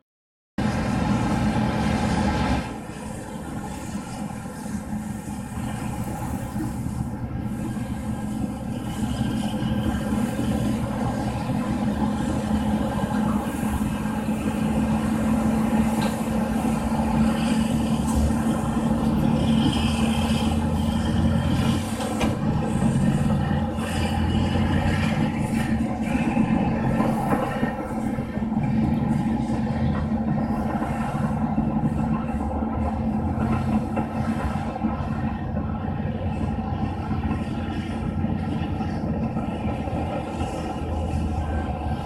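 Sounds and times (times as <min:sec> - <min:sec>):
heavy diesel engines working: 0:00.6 - 0:42.0.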